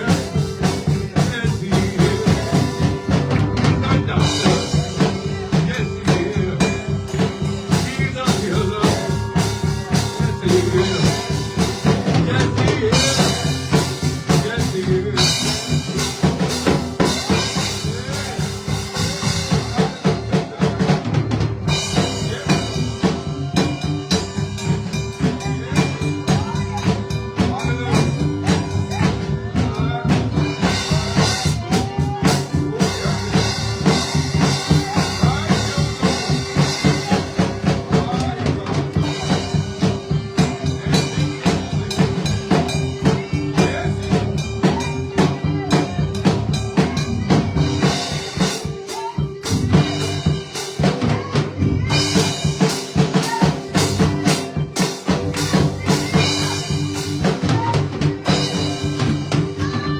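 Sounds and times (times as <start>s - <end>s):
band playing instrumental groove: 0.0s - 59.9s
drum kit beating fast rhythm: 0.0s - 59.9s.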